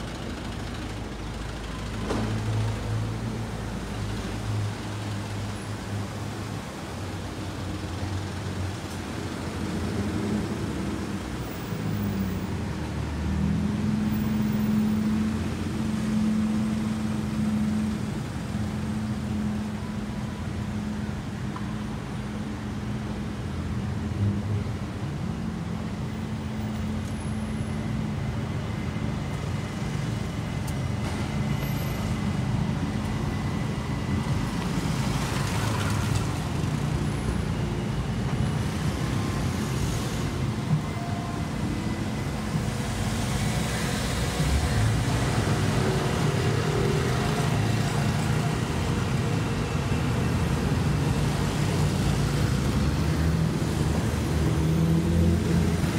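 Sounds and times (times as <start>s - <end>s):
car engines in slow traffic: 0.0s - 55.9s.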